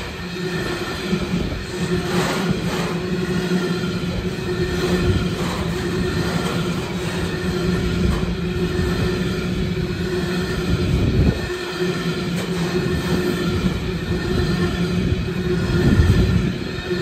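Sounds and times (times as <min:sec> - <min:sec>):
constant hum: 0:00.0 - 0:17.0
train wagons rolling on rails: 0:00.0 - 0:17.0.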